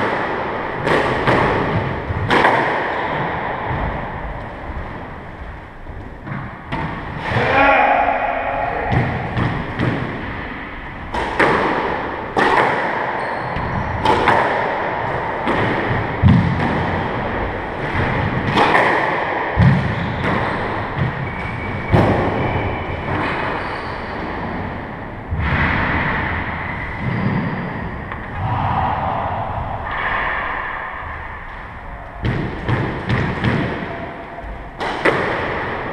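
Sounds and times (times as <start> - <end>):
squash ball hits echoing: 0.0 - 5.4, 6.1 - 24.7, 25.3 - 35.9.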